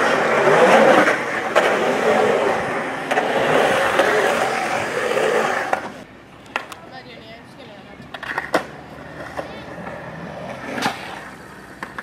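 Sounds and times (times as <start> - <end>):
skateboard clacks: 0.0 - 6.9, 8.0 - 12.0
skateboard wheels rolling on concrete: 0.0 - 12.0.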